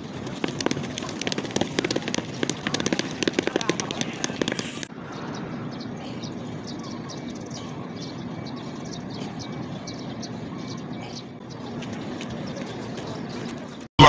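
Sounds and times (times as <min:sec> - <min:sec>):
bird chirping: 0:00.0 - 0:13.9.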